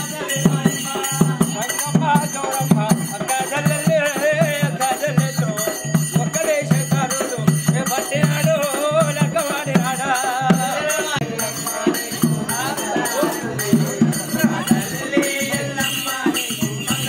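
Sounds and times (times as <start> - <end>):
steady drumbeat: 0.0 - 17.0.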